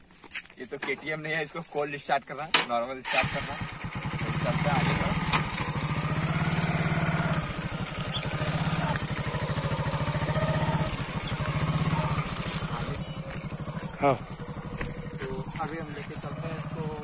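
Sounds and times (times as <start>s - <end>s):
motorcycle engine running: 3.1s - 17.0s.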